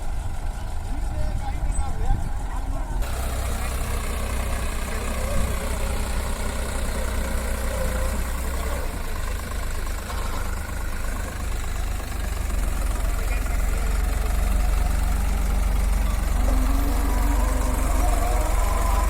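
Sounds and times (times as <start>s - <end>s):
diesel engine low hum: 0.0s - 19.0s.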